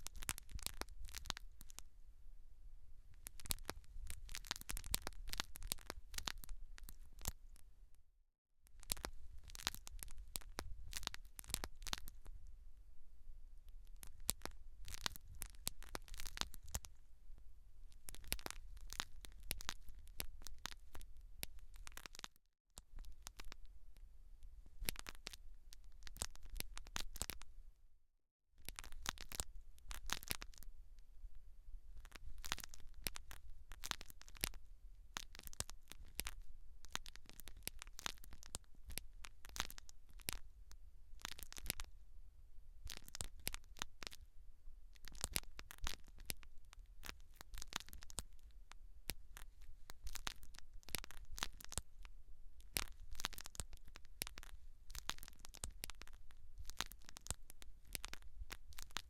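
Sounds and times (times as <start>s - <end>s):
scratching and crackling on scalp: 0.0s - 1.9s, 3.1s - 7.7s, 8.7s - 12.5s, 13.6s - 17.0s, 17.9s - 23.8s, 24.6s - 27.5s, 28.6s - 30.7s, 31.9s - 42.0s, 42.8s - 44.3s, 44.9s - 59.0s
faint low hum: 0.0s - 28.0s, 28.6s - 59.0s.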